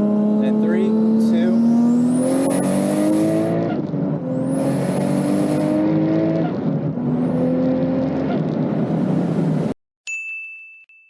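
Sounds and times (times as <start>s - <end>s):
car engine at full throttle: 0.0s - 9.8s.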